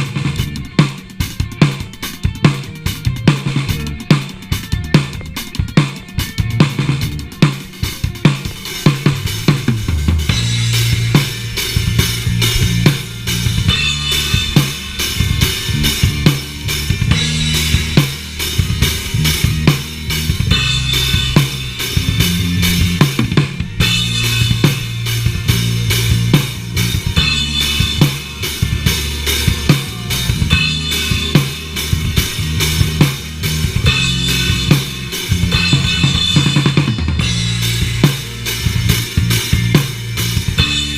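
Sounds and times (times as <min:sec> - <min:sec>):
bass guitar: 0:00.0 - 0:40.9
drum kit beat: 0:00.0 - 0:40.9
electric guitar: 0:00.0 - 0:40.9.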